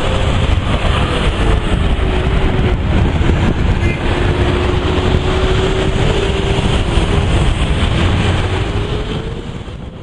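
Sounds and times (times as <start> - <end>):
vehicle rumbling: 0.0 - 10.0.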